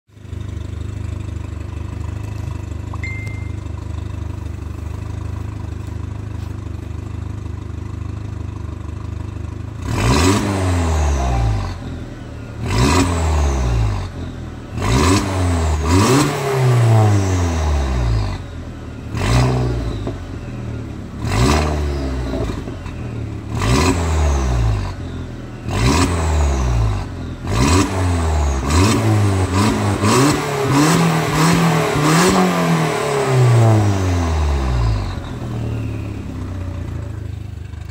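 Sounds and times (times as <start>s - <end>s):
car engine idling and revving: 0.1s - 37.9s.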